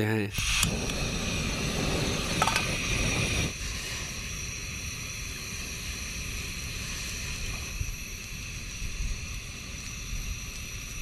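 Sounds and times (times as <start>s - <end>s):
low rumbling noise: 0.5s - 11.0s.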